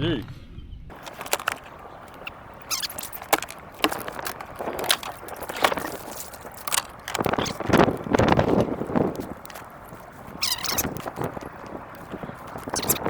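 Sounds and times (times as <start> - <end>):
knocks and clicks: 0.9 - 13.0.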